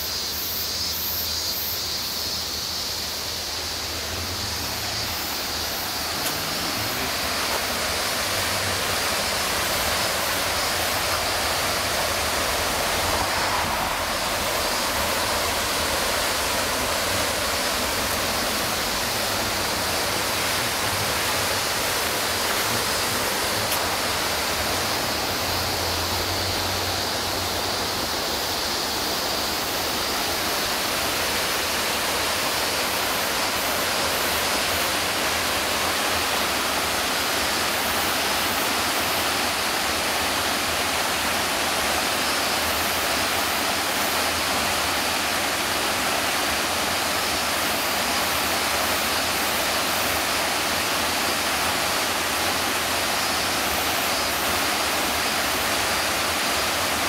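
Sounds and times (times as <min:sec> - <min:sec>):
waterfall rushing: 0:01.4 - 0:57.0.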